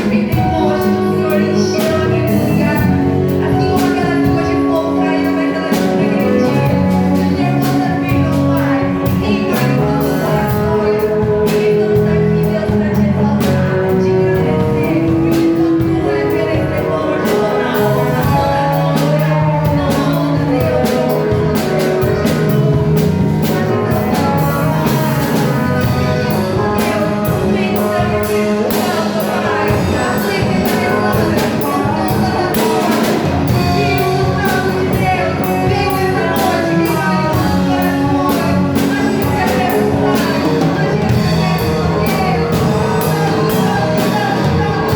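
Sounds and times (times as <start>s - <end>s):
band playing with drum beat: 0.0s - 44.9s
people singing: 0.0s - 44.9s.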